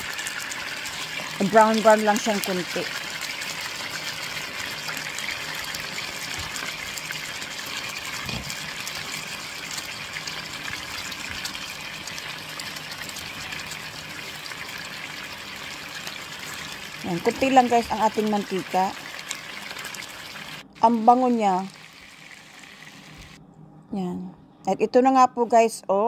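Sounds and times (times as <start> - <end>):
chicken sizzling in oil: 0.0 - 23.4.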